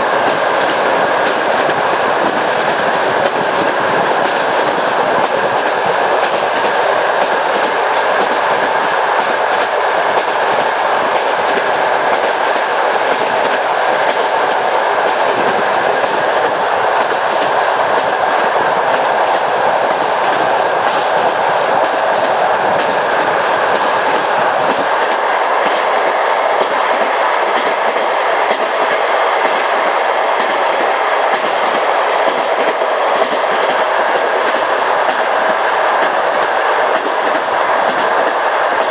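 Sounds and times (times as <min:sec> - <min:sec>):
rushing rail noise: 0:00.0 - 0:38.9
train wheels clickety-clack: 0:00.0 - 0:38.9.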